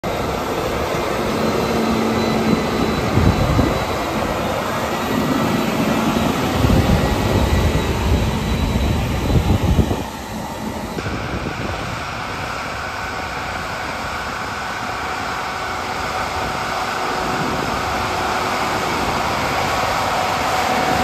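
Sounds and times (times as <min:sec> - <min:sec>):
tracks and implement running noise: 0:00.0 - 0:21.0.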